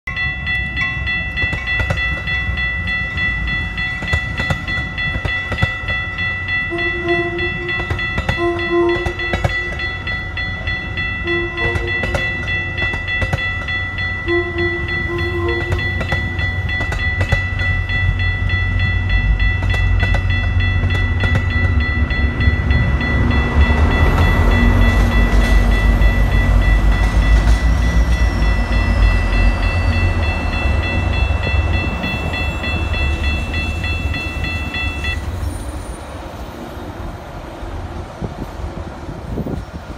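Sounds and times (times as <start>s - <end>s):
steady high ringing tones: 0.1s - 36.1s
train wheels clicking over rail joints: 0.6s - 6.6s, 7.4s - 14.2s, 14.9s - 35.2s.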